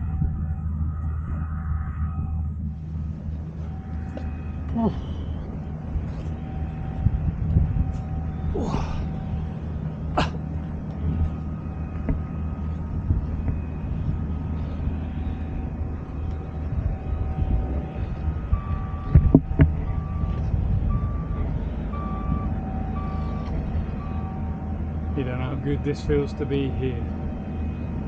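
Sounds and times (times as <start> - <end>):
reversing alarm beeping: 0.0 - 28.0
vehicle engine running: 0.0 - 28.0.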